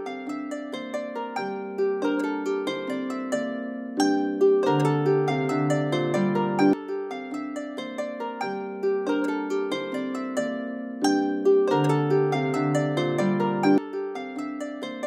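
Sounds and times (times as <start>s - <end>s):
plucked harp-like melody: 0.0s - 15.0s.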